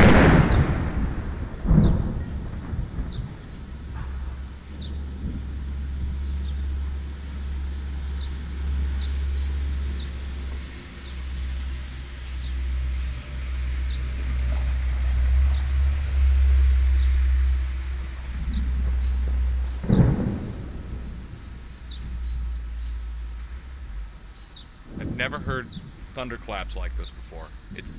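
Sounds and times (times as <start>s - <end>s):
rolling thunder rumble: 0.0s - 27.9s.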